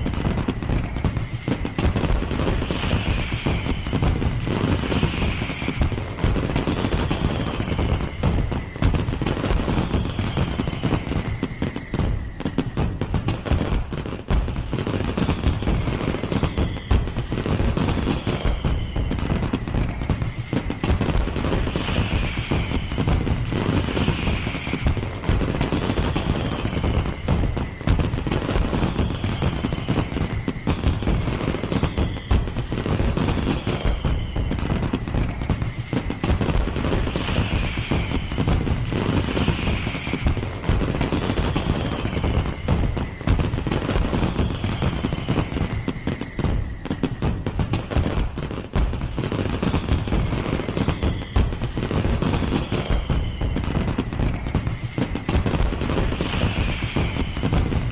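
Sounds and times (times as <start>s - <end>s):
firework bangs and crackles: 0.0s - 57.9s
firework falling whistles: 0.0s - 57.9s.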